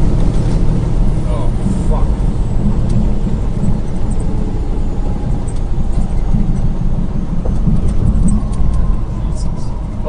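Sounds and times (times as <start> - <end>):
road noise: 0.0 - 10.0
vehicle engine rumble: 0.0 - 10.0.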